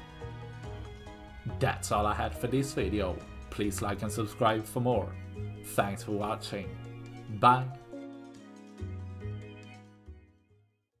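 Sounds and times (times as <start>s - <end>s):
background music with held notes: 0.0s - 10.8s.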